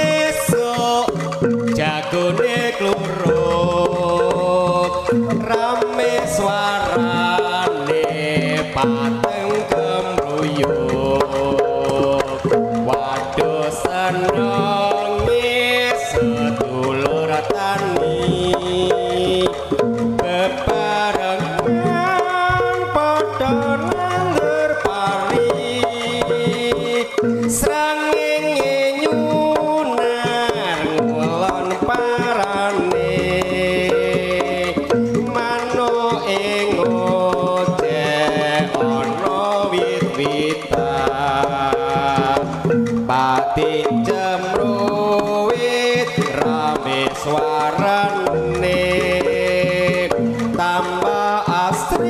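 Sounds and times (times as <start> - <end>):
hand drums beating: 0.0 - 52.0
wavering melody line: 0.0 - 52.0.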